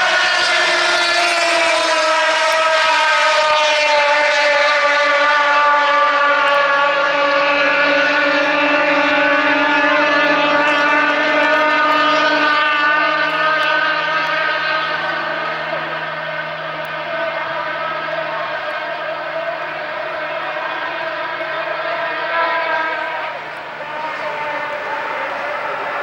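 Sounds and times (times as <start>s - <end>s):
outboard engine high-pitched whine: 0.0s - 26.0s.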